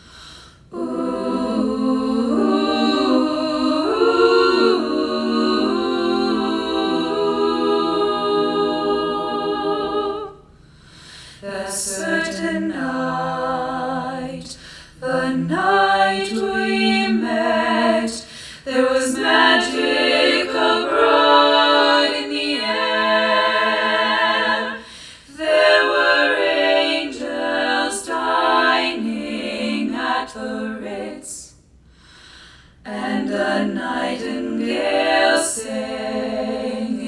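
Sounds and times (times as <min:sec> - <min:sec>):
a cappella vocal ensemble singing: 0:00.0 - 0:37.0.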